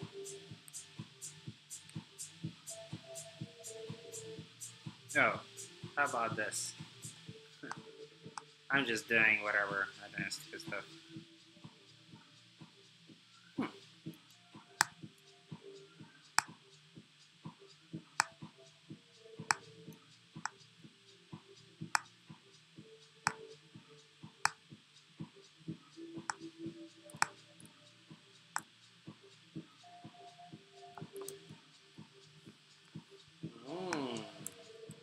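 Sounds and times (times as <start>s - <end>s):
faint background music: 0.0s - 35.0s.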